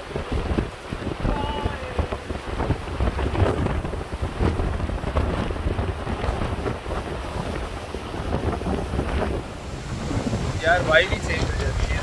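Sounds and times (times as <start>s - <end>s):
rough sea wash: 0.0s - 12.0s
wind buffeting the microphone: 0.0s - 12.0s.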